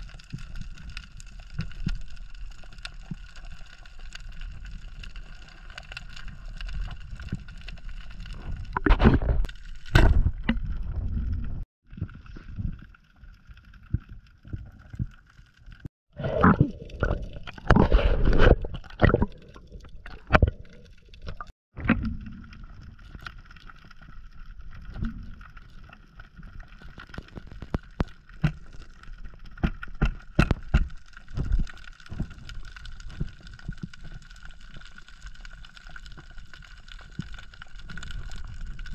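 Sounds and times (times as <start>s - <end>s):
underwater hum: 0.0s - 38.9s.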